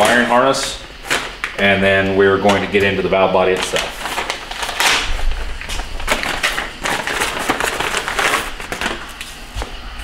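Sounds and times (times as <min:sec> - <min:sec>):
wiring harness crackling and clicking: 0:00.0 - 0:09.3.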